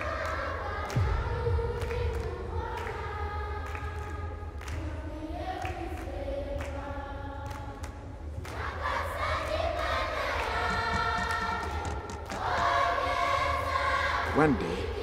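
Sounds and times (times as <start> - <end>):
choir singing held notes: 0.0 - 15.0
steady low rumble: 0.0 - 15.0.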